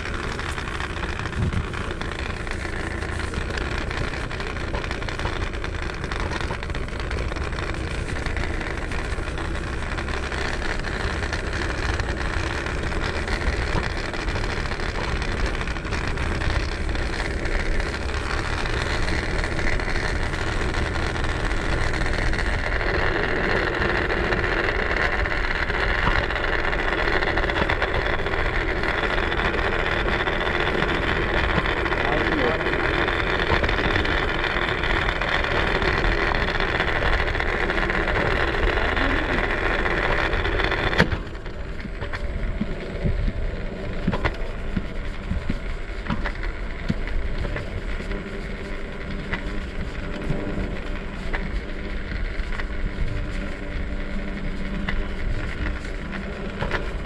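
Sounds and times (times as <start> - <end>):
scooter tyres rolling on road: 0.0 - 57.0.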